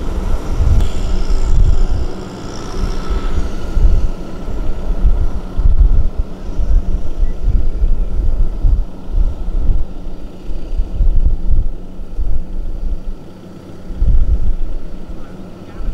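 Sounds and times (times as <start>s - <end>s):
farm machine engine running: 0.0s - 15.9s
wind buffeting microphone: 0.0s - 15.9s.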